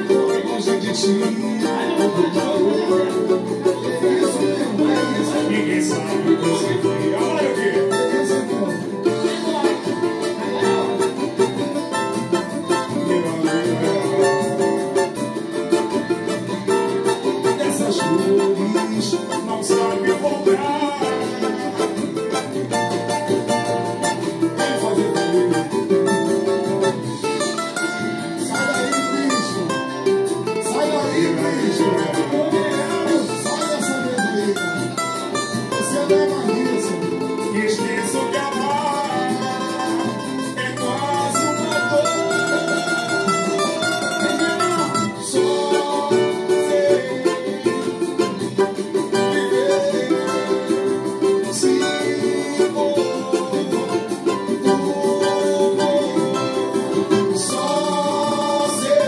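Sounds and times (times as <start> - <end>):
small guitar strummed samba rhythm: 0.0 - 59.0.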